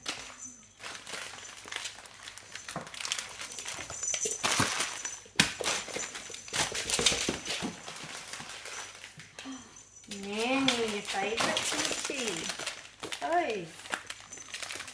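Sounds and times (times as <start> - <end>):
wrapping paper rustling: 0.0 - 9.3, 10.1 - 14.9.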